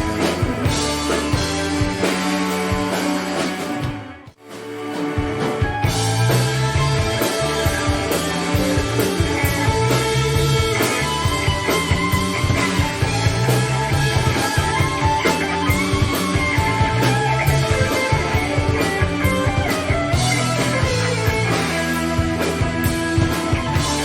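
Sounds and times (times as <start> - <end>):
bass guitar: 0.0 - 24.0
drum kit beat: 0.0 - 24.0
electric guitar: 0.0 - 24.0.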